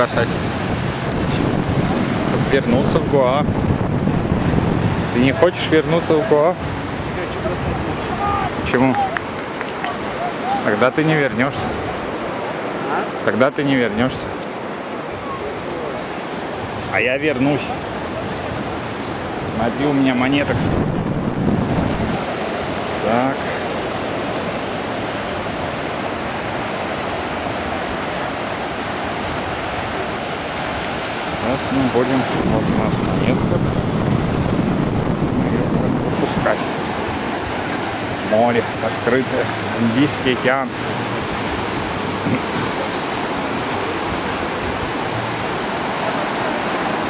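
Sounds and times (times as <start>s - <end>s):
surf breaking on beach: 0.0s - 47.0s.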